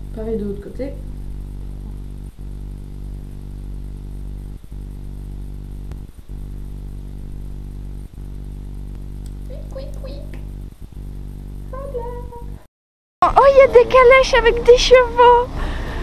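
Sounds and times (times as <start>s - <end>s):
steady low multi-tone hum: 0.0s - 16.0s.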